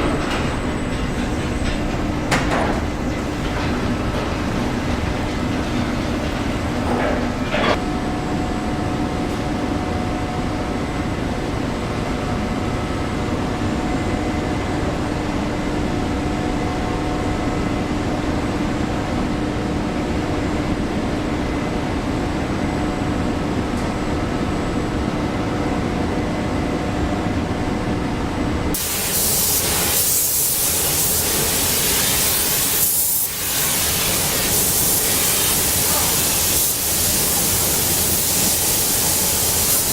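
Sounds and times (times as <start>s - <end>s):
factory machinery humming: 0.0s - 39.9s.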